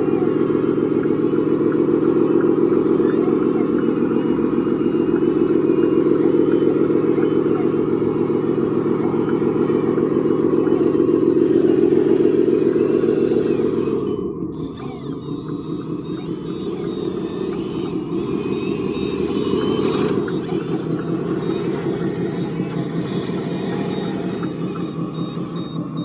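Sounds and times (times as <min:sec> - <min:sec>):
electric motor buzzing whine: 0:00.0 - 0:26.0.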